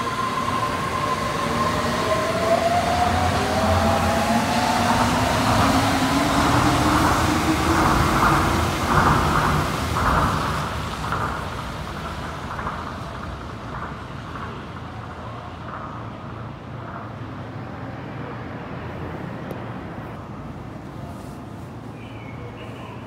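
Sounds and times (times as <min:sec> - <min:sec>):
monorail train humming: 0:00.0 - 0:23.0.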